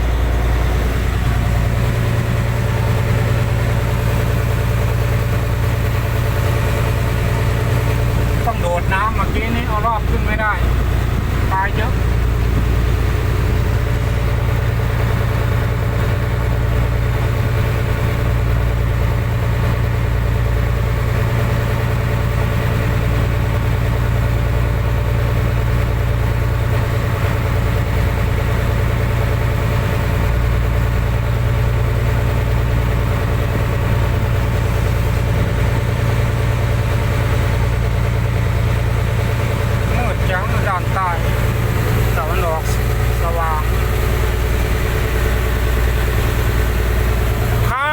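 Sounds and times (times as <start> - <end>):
boat engine idling: 0.0 - 47.9.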